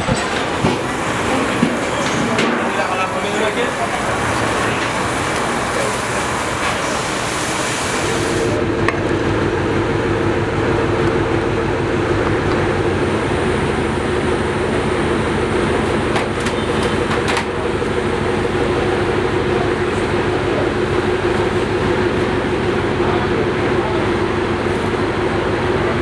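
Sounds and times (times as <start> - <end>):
kitchen mechanical roar and hum: 0.0 - 26.0.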